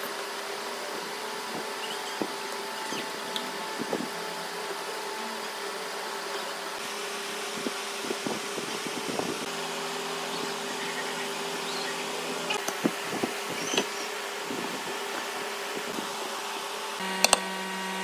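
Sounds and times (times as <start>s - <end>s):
electric fan humming: 0.0s - 18.0s.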